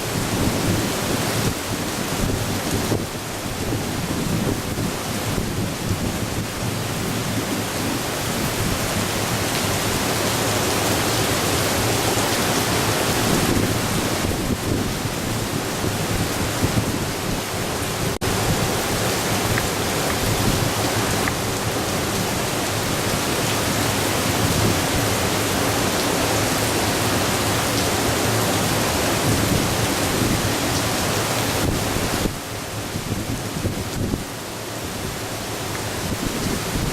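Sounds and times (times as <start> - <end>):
strong wind rushing: 0.0 - 35.2, 35.8 - 36.9
heavy rain: 0.0 - 36.9.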